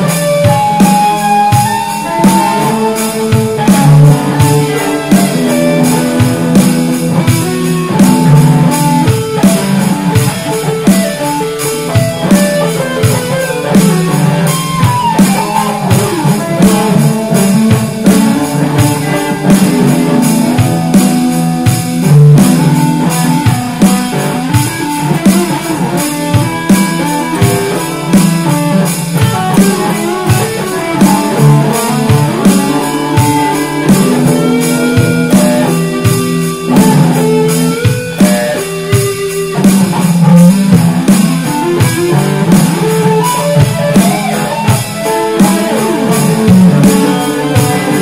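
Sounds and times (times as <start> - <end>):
electric guitar melody: 0.0 - 48.0
steady beat: 0.0 - 48.0.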